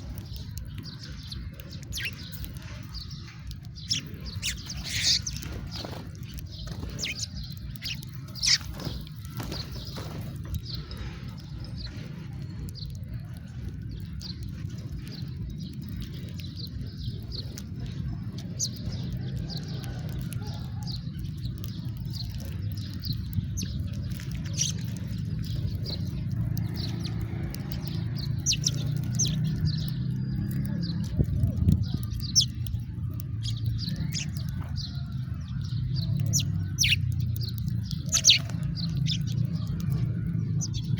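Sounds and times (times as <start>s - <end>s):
low background rumble: 0.0s - 40.9s
sparrows chirping: 0.0s - 40.9s.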